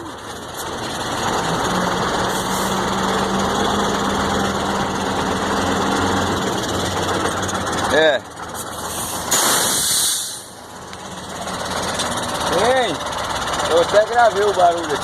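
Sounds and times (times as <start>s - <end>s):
diesel engine running: 0.0s - 15.0s
truck drivetrain growling: 0.0s - 15.0s.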